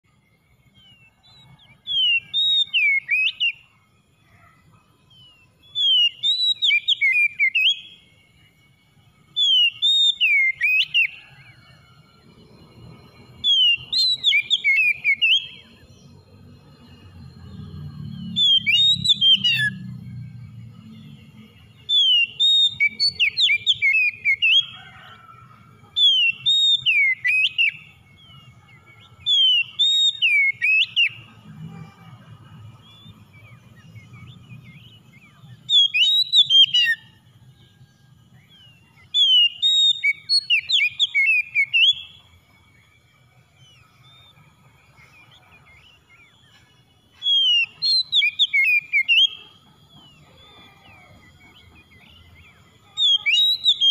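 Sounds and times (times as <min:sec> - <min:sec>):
bird singing whistled notes: 0:00.0 - 0:53.9.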